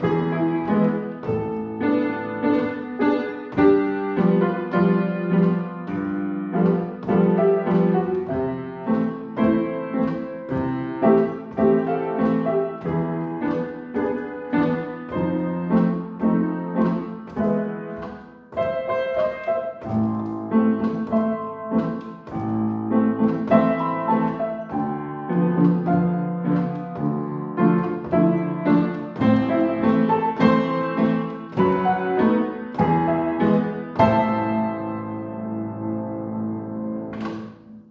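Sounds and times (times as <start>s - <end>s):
solo piano piece: 0.0s - 37.9s.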